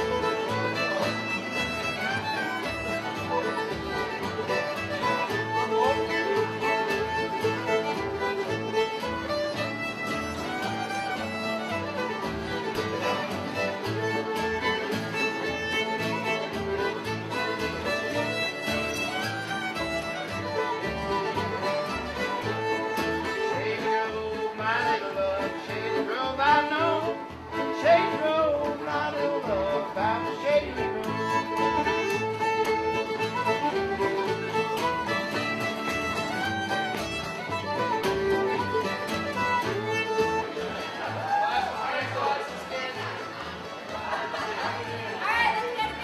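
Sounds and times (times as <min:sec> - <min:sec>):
fiddles playing: 0:00.0 - 0:46.0
strummed acoustic guitars: 0:00.0 - 0:46.0.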